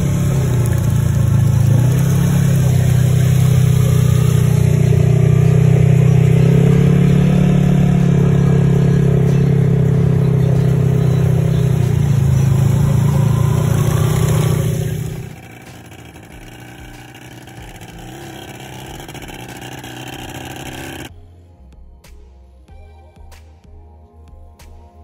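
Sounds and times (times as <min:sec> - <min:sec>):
atv engine running: 0:00.0 - 0:21.1.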